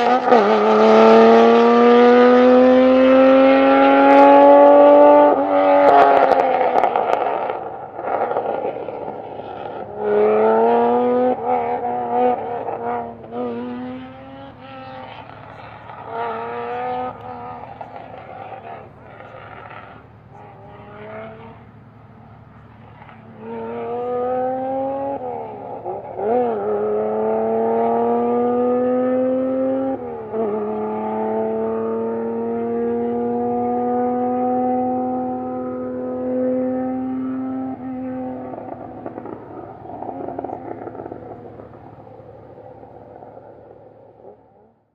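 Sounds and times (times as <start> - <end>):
car engine accelerating through gears: 0.0 - 44.9.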